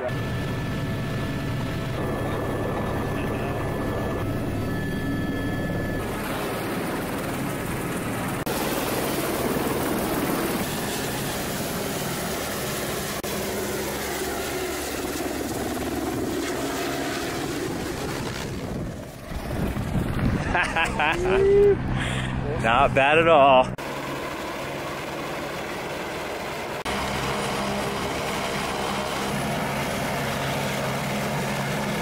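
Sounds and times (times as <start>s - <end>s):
helicopter rotor beat and turbine: 0.0s - 32.0s.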